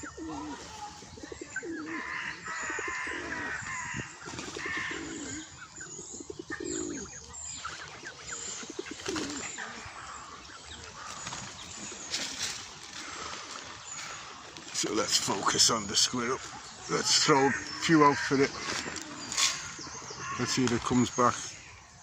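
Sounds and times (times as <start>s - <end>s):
birds chirping and peeping: 0.0s - 22.0s
low cooing bird calls: 0.0s - 22.0s.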